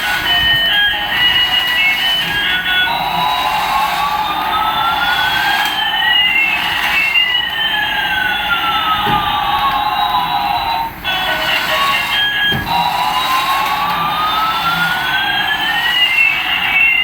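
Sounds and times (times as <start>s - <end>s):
toy electronic siren tones: 0.0s - 17.0s.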